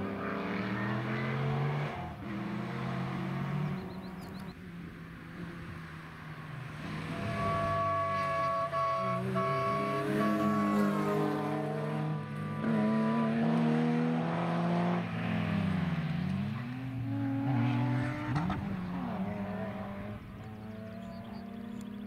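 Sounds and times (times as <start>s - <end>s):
rally car engines accelerating: 0.0s - 22.0s.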